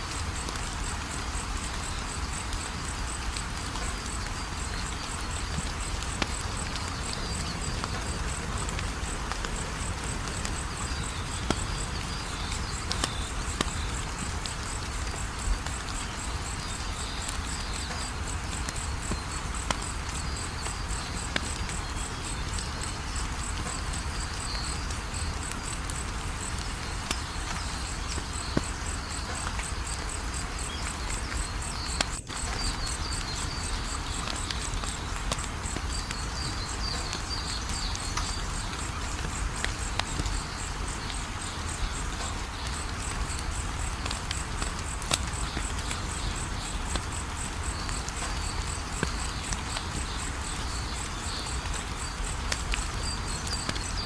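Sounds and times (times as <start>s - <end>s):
crickets chirping: 0.0s - 54.0s
wood fire crackling and popping: 0.1s - 54.0s.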